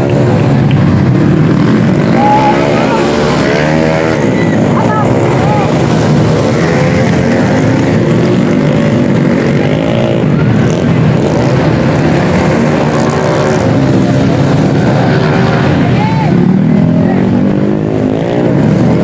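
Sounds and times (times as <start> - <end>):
racing motorcycles revving past: 0.0 - 19.0.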